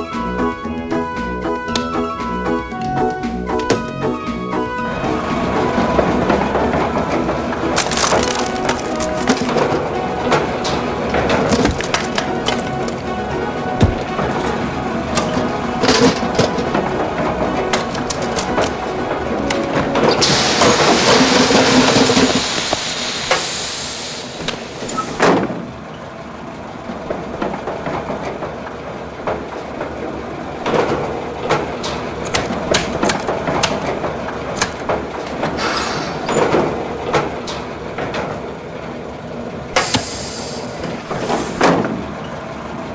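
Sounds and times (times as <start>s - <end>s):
garbage truck machinery whirring: 0.0s - 42.9s.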